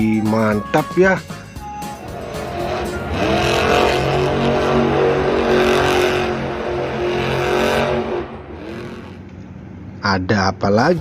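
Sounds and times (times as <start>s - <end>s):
engine running steadily: 0.0s - 10.5s.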